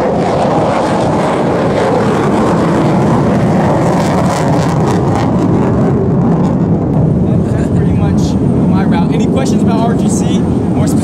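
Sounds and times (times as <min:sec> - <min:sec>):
jet engine running: 0:00.0 - 0:11.0.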